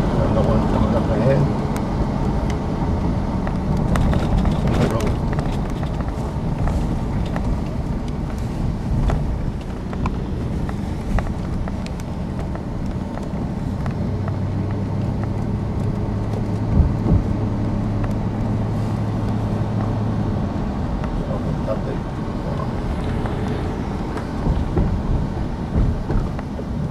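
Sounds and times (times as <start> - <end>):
low engine hum: 0.0 - 26.9
road and engine rumble: 0.0 - 26.9.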